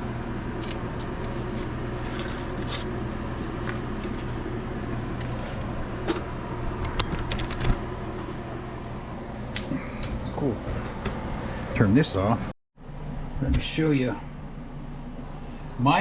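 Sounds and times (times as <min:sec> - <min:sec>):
kitchen equipment hum: 0:00.0 - 0:16.0.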